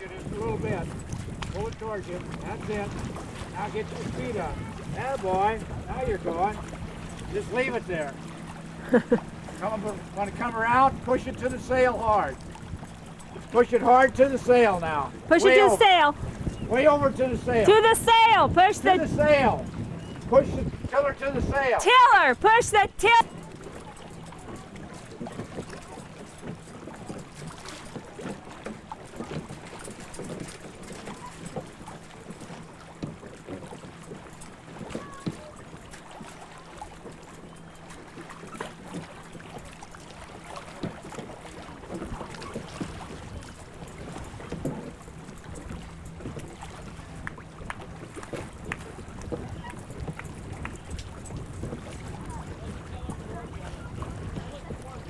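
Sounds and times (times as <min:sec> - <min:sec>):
lake water lapping and splashing: 0:00.0 - 0:55.0.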